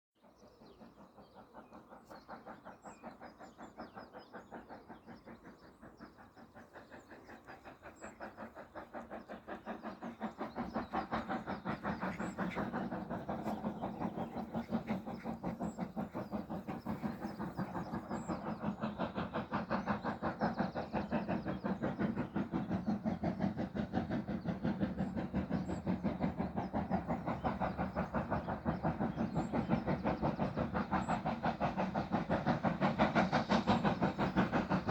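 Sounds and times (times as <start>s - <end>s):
steam locomotive exhaust beating: 0.2s - 34.9s.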